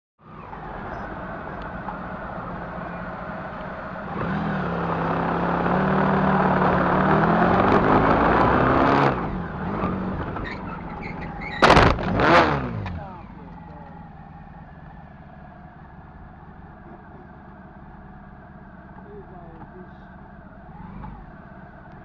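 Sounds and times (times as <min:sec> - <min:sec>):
wind and road noise: 0:00.2 - 0:22.0
motorcycle engine running: 0:00.6 - 0:22.0.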